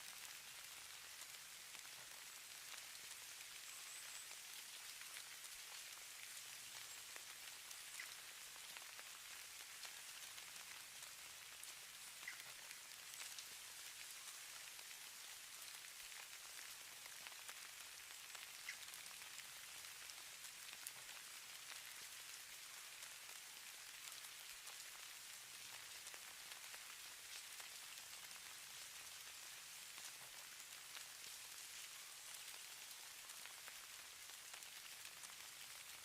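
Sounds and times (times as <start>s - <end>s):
falling snow hissing and ticking: 0.0s - 36.0s.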